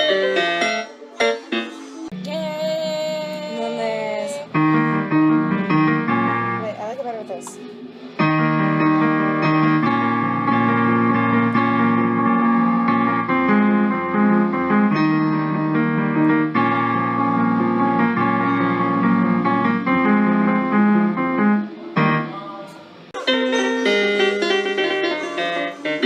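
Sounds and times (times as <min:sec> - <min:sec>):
electric piano sustained chords: 0:03.5 - 0:26.0.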